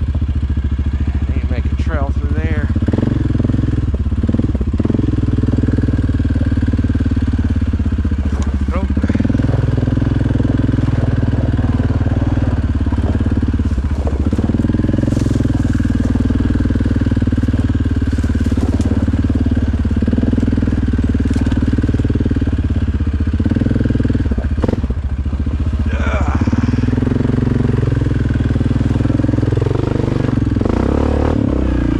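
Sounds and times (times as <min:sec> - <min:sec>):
atv engine running: 0:00.0 - 0:31.9.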